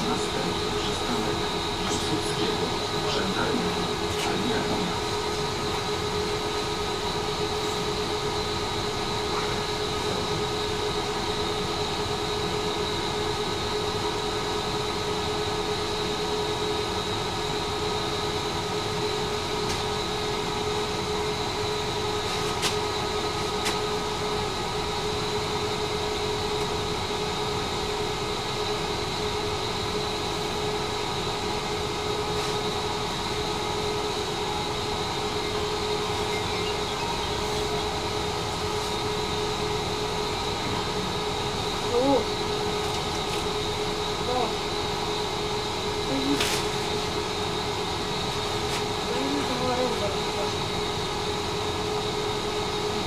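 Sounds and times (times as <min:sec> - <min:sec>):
tram running with a whine: 0:00.0 - 0:53.0.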